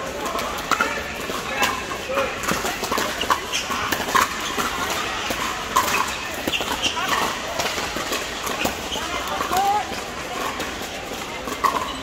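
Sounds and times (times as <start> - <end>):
murmur of voices: 0.0 - 12.0
paddles striking plastic balls: 0.0 - 12.0.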